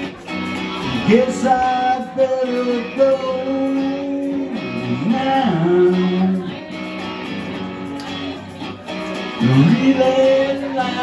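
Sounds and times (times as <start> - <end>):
strummed electric guitar: 0.0 - 11.0.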